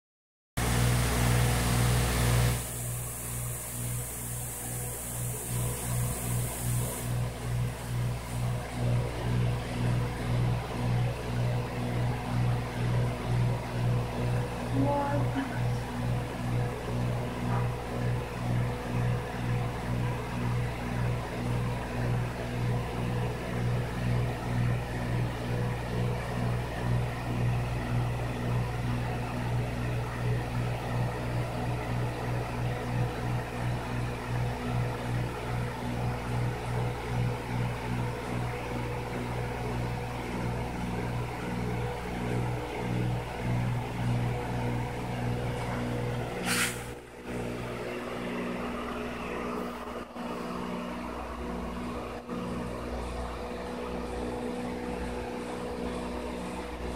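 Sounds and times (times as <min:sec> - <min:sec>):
aquarium pump humming: 0:00.6 - 0:56.9.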